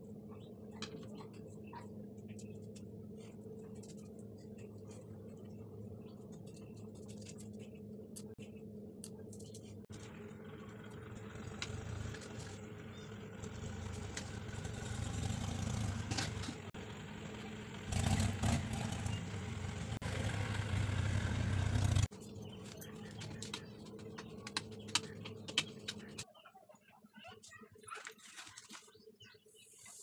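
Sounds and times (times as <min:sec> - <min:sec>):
low mechanical rumble: 0:00.0 - 0:26.2.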